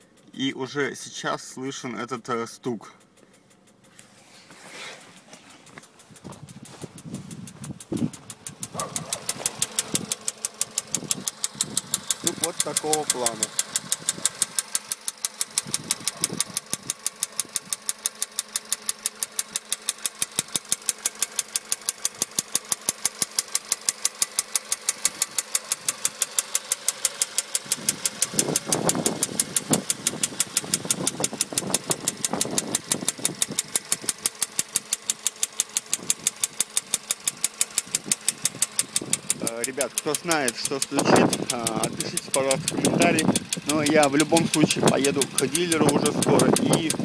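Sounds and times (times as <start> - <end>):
car engine idling with knock: 0.0 - 0.4, 2.8 - 47.0
louder lower engine sound: 2.8 - 47.0.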